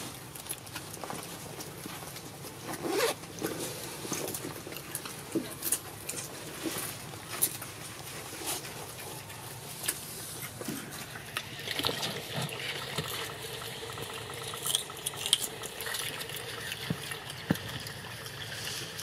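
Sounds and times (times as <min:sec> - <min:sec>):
wet chewing and smacking: 0:00.3 - 0:19.0.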